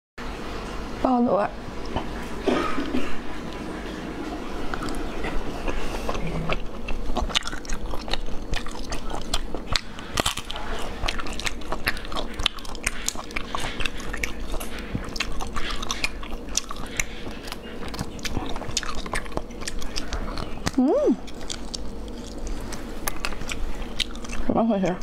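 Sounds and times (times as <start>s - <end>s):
wet smacking and chewing: 1.8s - 25.0s.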